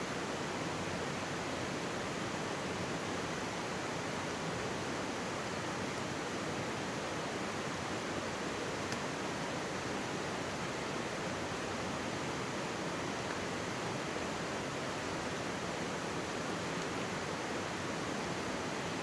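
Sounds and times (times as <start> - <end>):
stream rushing and babbling: 0.0 - 19.0.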